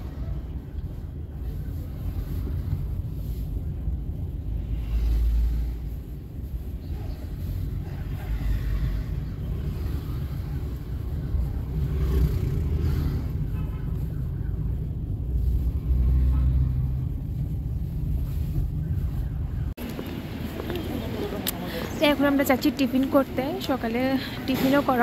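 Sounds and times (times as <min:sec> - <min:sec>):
car engine: 0:00.0 - 0:24.9
road rumble: 0:00.0 - 0:25.0.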